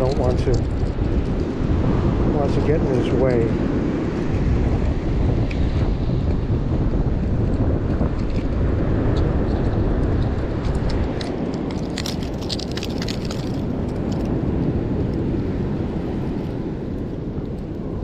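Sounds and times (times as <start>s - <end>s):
surf on beach: 0.0s - 18.0s
wind buffeting microphone: 0.0s - 18.0s.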